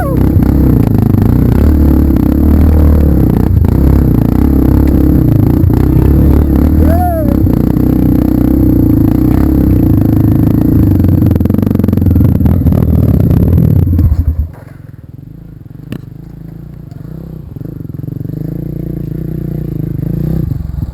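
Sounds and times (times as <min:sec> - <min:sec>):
approaching vehicle engine: 0:00.0 - 0:20.9
off-road vehicle engine running: 0:00.0 - 0:20.9.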